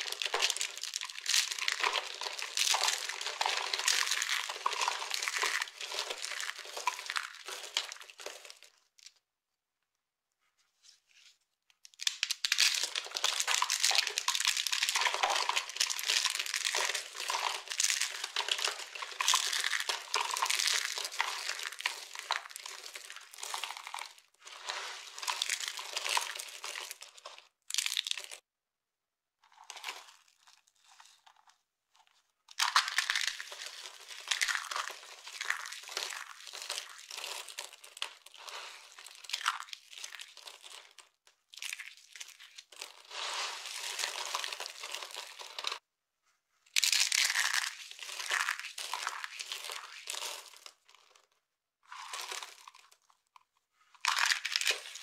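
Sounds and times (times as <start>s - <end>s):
dry soap crushed in hands: 0.0s - 9.2s, 11.7s - 28.4s, 29.4s - 31.6s, 32.5s - 45.8s, 46.7s - 55.0s.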